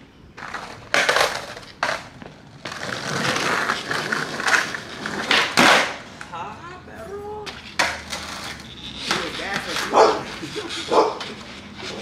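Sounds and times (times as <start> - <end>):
skateboard wheels rolling on asphalt: 0.0 - 12.0
skateboard clacking on pavement: 0.3 - 6.4, 7.4 - 12.0.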